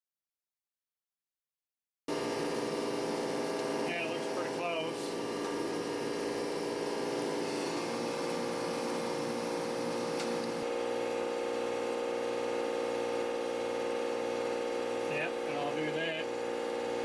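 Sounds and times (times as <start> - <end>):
coolant flowing: 2.1 - 17.0
surface grinder motor humming: 2.1 - 17.0.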